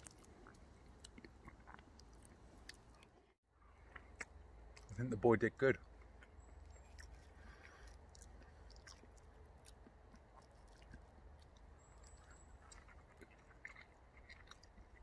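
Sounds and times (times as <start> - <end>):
faint chewing: 0.0 - 5.0, 5.8 - 15.0.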